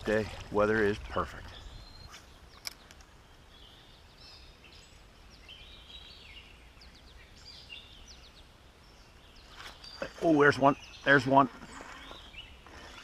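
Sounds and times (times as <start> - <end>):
songbirds singing faintly: 0.0 - 13.0.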